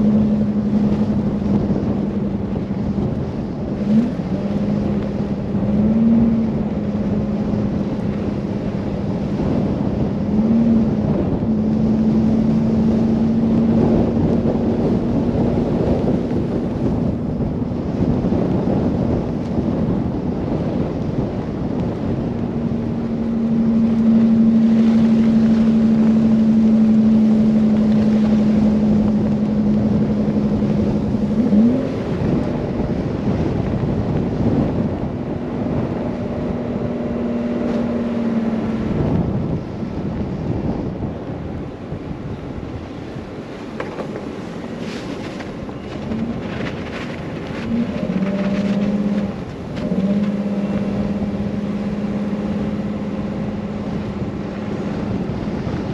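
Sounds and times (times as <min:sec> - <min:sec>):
car engine hum: 0:00.0 - 0:55.9
road noise: 0:00.0 - 0:55.9
rushing wind: 0:00.0 - 0:55.9.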